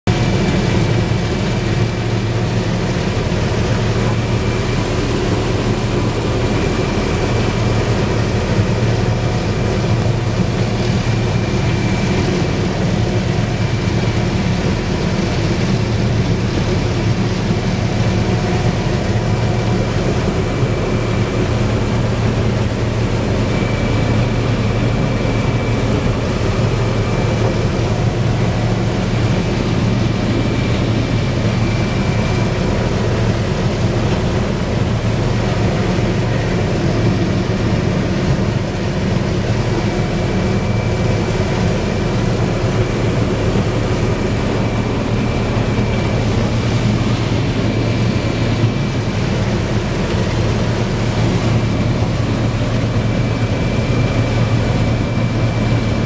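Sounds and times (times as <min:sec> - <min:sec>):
combine harvester droning: 0:00.1 - 0:56.0.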